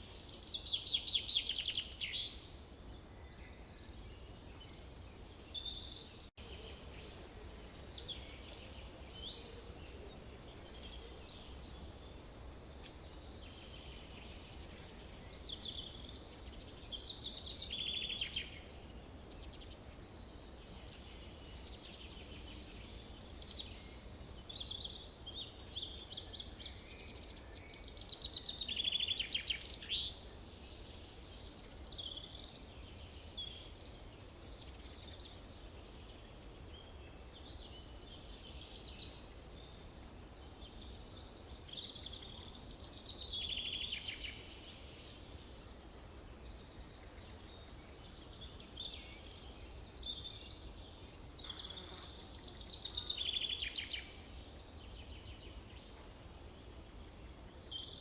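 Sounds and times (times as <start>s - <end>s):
birds calling and singing: 0.0s - 56.0s.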